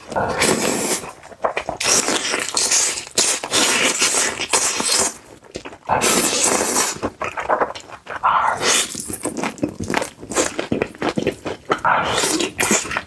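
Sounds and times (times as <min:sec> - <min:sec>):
person crunching crispy food: 0:00.4 - 0:13.0.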